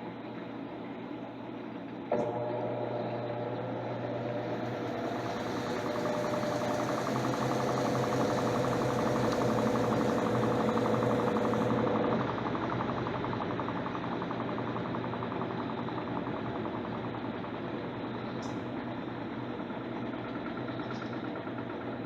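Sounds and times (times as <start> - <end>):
washing machine motor humming: 2.0 - 22.0.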